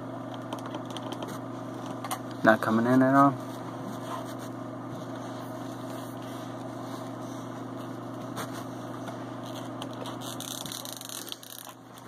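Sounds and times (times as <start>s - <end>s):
low mechanical hum with tones: 0.0s - 12.0s.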